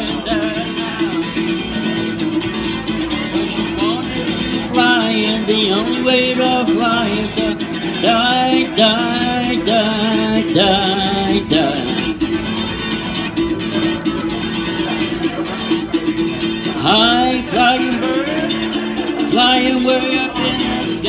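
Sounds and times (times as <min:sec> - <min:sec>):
man singing wordlessly: 0:00.0 - 0:12.5, 0:16.2 - 0:21.0
acoustic guitar strumming: 0:00.0 - 0:21.0.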